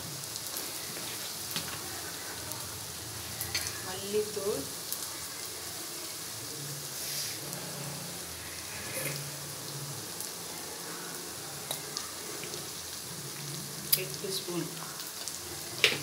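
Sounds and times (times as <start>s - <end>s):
shallots sizzling in oil: 0.0s - 16.0s.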